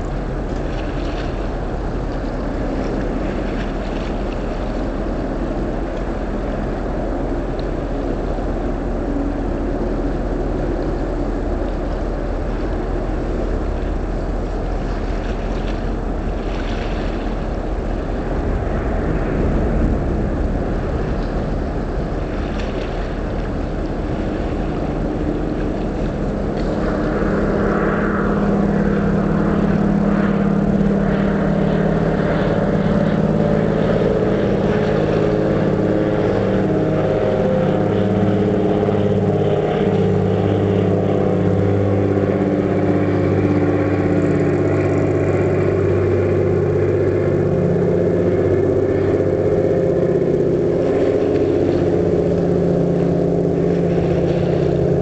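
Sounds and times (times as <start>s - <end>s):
ship machinery drone: 0.0s - 55.0s.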